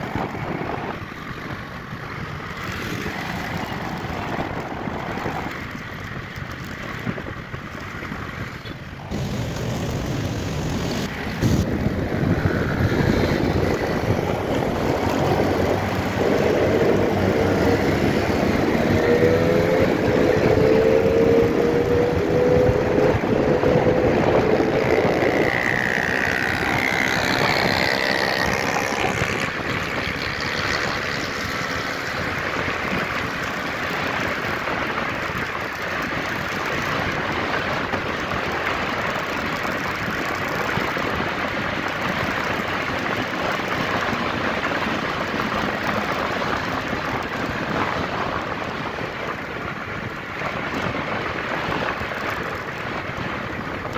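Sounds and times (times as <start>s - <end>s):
wind rushing over microphone: 0.0s - 53.9s
motorcycle engine revving: 7.6s - 53.9s.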